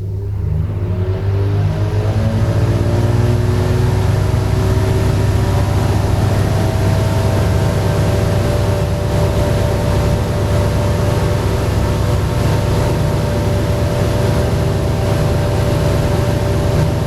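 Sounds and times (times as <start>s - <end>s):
exhaust fan motor humming: 0.0s - 17.0s.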